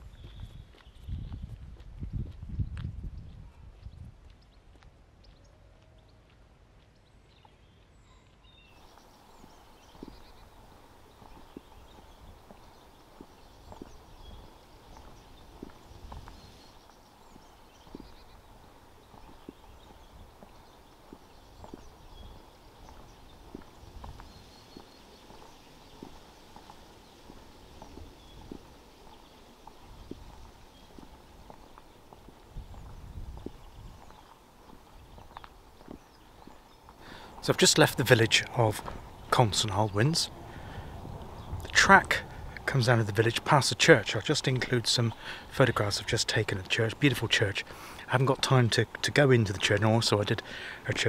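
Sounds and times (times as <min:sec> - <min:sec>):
small birds chirping: 0:00.0 - 0:01.6, 0:02.6 - 0:51.0
footsteps on a path: 0:00.0 - 0:51.0.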